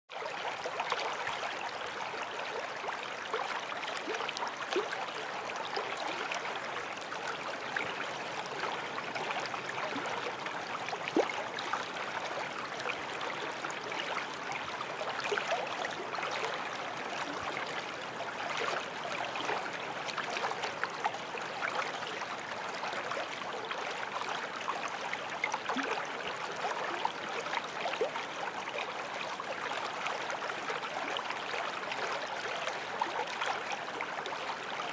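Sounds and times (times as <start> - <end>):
stream flowing over stones: 0.1 - 34.9.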